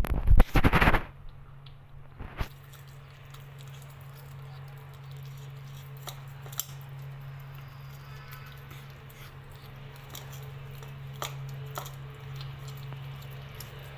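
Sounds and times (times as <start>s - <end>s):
steady low hum: 0.0s - 13.9s
kitten chewing wet food: 0.6s - 13.9s.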